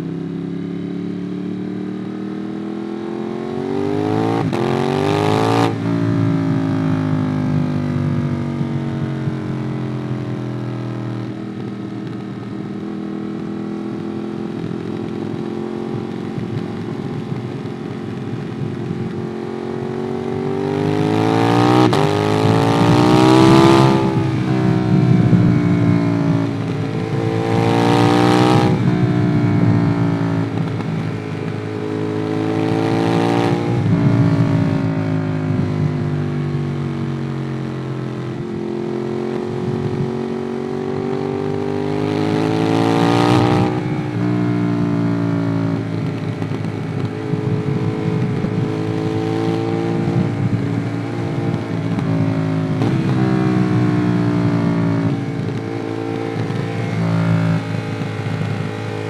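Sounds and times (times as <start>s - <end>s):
motorcycle engine revving and shifting: 0.0s - 59.0s.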